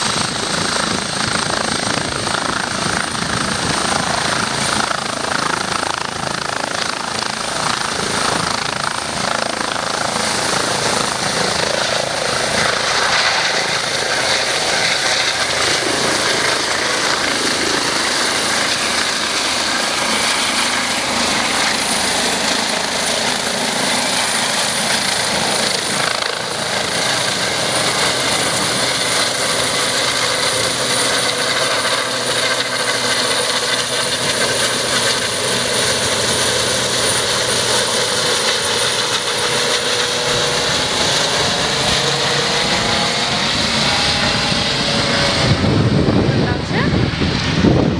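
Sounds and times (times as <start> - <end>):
helicopter rotor noise: 0.0 - 47.9.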